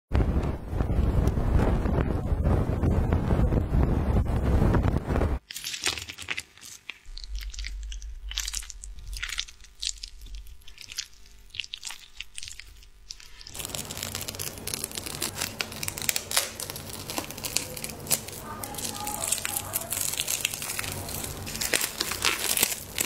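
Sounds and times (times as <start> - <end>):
sticky crackling of brushing: 0.3 - 23.0.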